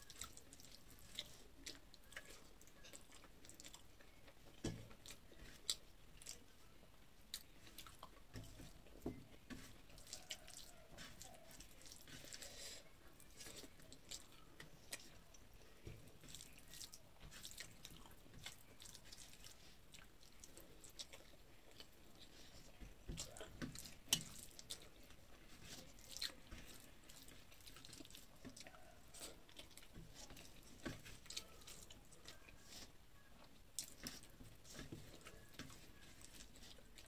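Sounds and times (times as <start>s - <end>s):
person chewing rice: 0.0s - 37.0s.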